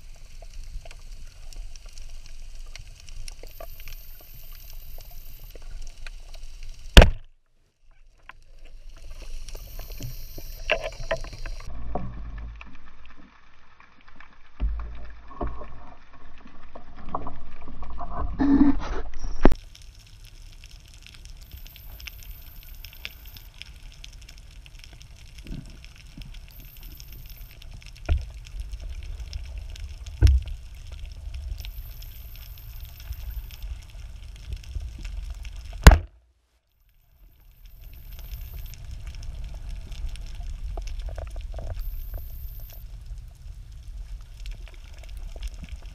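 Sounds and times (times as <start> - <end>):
underwater water rush: 0.0 - 7.2, 8.4 - 18.2, 19.6 - 36.1, 37.1 - 45.9
faint crackling: 0.0 - 45.9.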